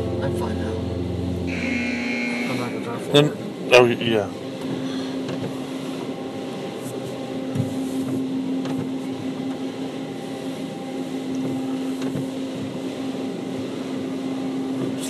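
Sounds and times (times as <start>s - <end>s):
car wash machinery hum: 0.0s - 15.0s.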